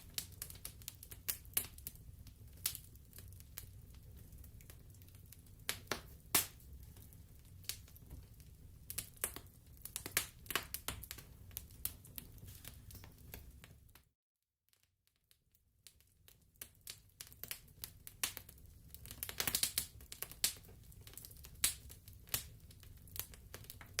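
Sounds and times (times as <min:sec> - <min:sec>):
wood fire crackling: 0:00.0 - 0:14.0, 0:15.3 - 0:24.0.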